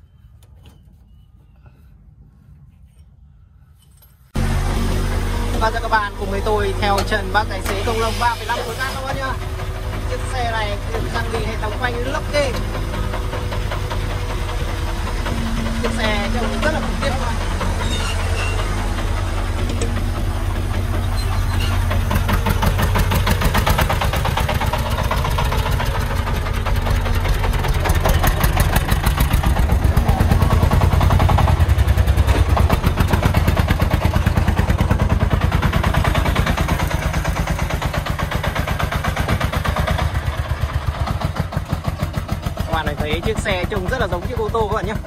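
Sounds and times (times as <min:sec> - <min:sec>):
truck engine chugging: 0:04.4 - 0:45.0.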